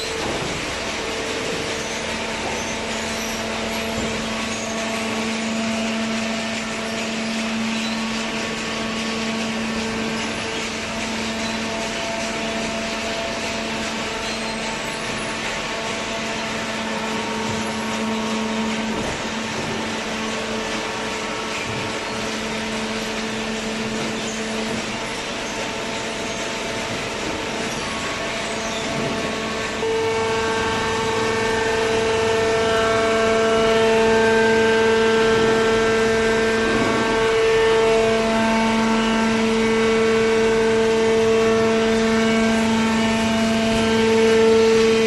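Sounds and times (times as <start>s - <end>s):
electric motor and pump humming: 0.0s - 45.0s.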